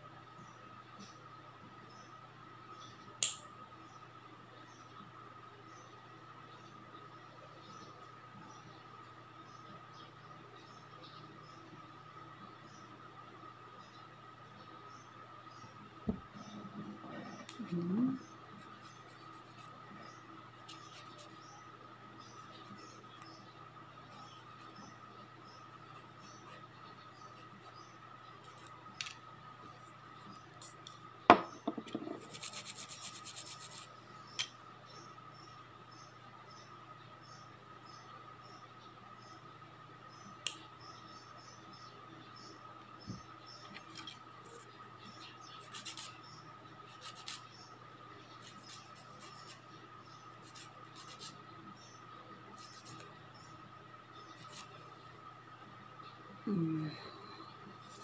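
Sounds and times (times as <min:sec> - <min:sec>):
faint hum with thin whine: 0:00.0 - 0:58.0.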